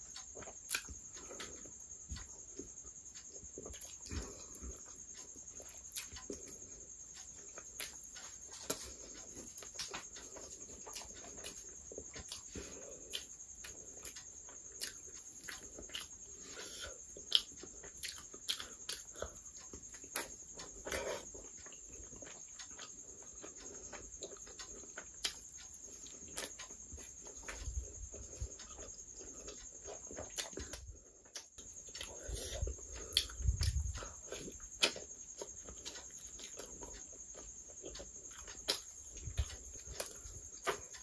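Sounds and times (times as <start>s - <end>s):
wet chewing and lip-smacking: 0.1s - 41.0s.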